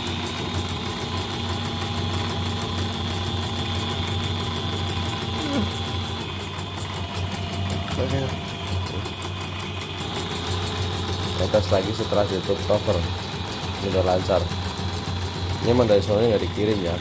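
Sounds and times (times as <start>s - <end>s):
embroidery machine motor hum: 0.0s - 17.0s
rapid needle stitching rhythm: 0.0s - 17.0s.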